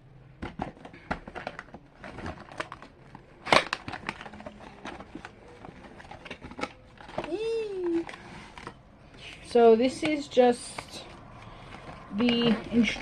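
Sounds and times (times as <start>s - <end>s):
packaging crinkling and rustling: 0.4s - 13.0s.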